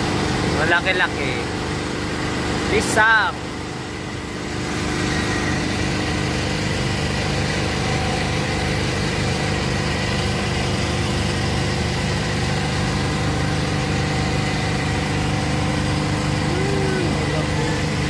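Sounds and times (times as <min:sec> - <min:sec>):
machine humming steadily: 0:00.0 - 0:18.0.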